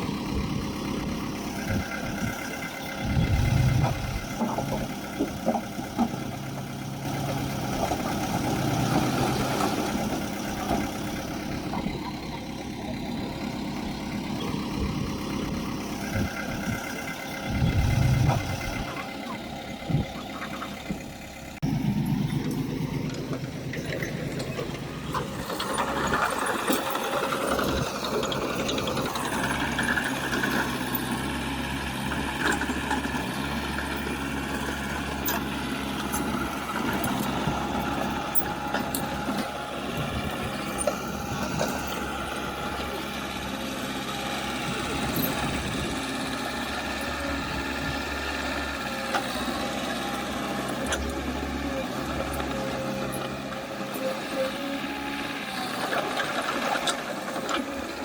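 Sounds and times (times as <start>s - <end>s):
heavy diesel machinery engines: 0.0s - 58.0s.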